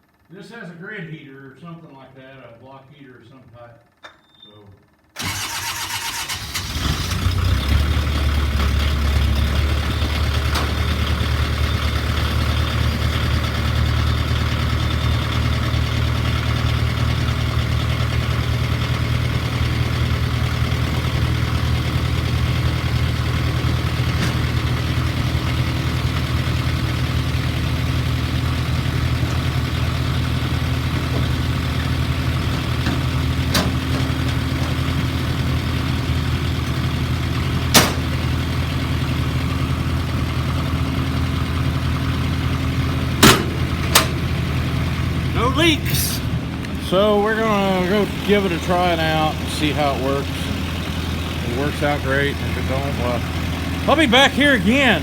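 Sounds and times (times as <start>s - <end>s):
diesel engine cranking and idling: 5.0s - 55.0s.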